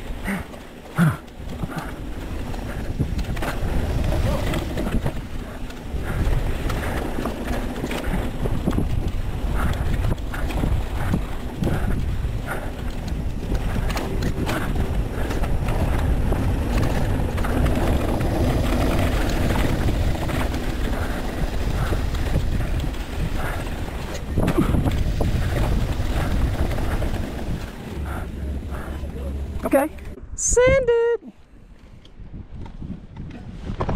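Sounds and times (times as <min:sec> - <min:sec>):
bike clattering and rattling: 0:00.0 - 0:30.2.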